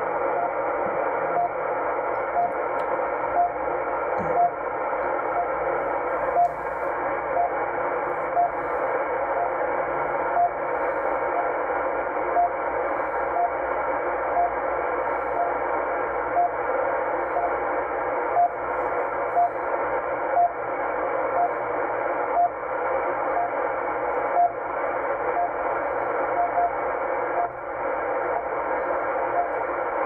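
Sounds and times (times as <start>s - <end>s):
radio hiss and static: 0.0s - 30.0s.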